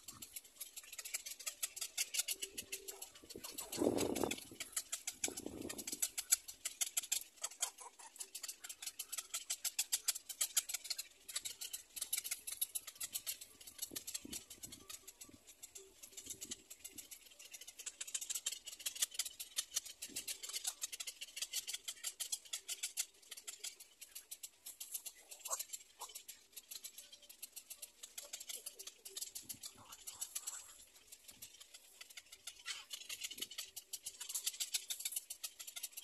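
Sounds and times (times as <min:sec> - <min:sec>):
heron chicks clicking calls: 0:00.0 - 0:36.0.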